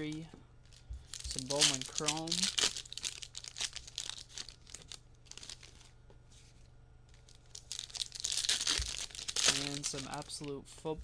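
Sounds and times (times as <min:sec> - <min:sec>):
plastic wrapping crinkling and tearing: 0:00.0 - 0:06.0, 0:07.1 - 0:10.6
faint steady hum: 0:00.0 - 0:11.0.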